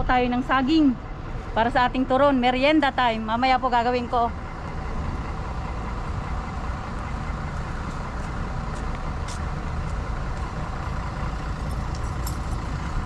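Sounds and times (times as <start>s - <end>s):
bus driving past: 0.0s - 13.0s
town traffic rumble: 0.0s - 13.0s.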